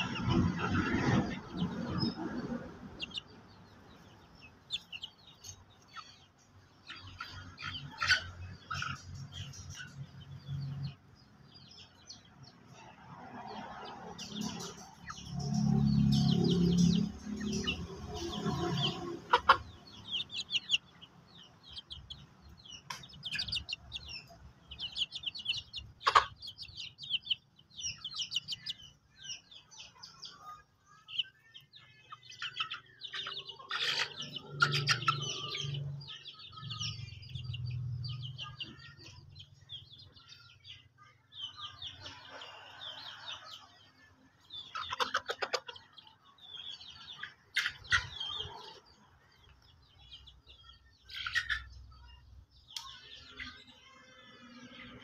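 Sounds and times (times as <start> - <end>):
chickens clucking: 0.0 - 55.0
chicks peeping: 0.0 - 55.0.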